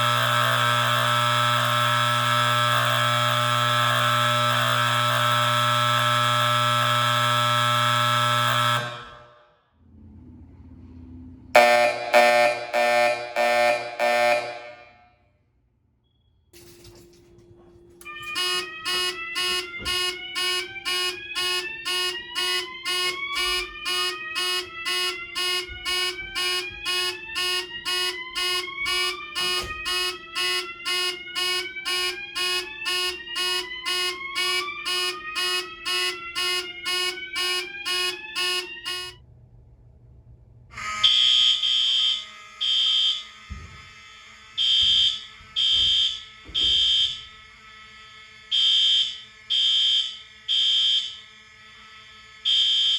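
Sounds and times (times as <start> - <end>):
fire alarm pulsed tone: 0.0 - 9.5, 11.6 - 15.2, 16.0 - 39.2, 40.8 - 52.9
fire alarm blasts: 0.0 - 9.6, 11.6 - 15.3, 16.1 - 39.2, 40.7 - 52.9.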